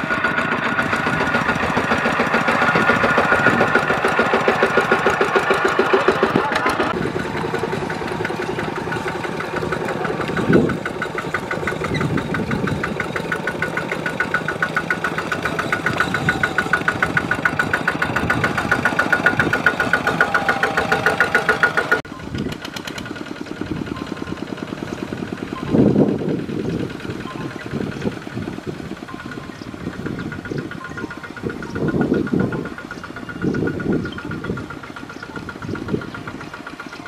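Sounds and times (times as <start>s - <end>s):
tractor diesel engines chugging: 0.0s - 37.0s.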